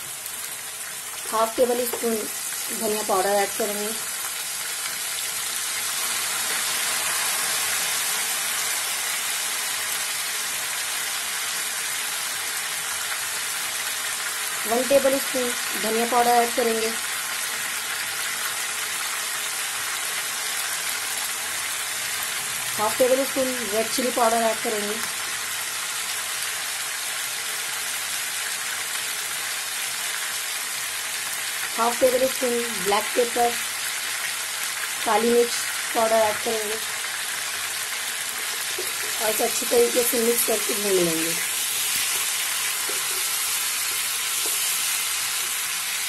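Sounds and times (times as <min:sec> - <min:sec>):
chicken sizzling in hot oil: 0:00.0 - 0:46.0.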